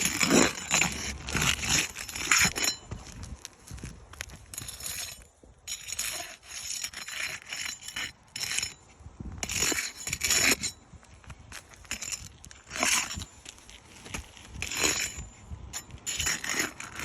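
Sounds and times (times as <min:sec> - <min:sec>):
scraping and clinking on roof shingle: 0:00.0 - 0:17.0.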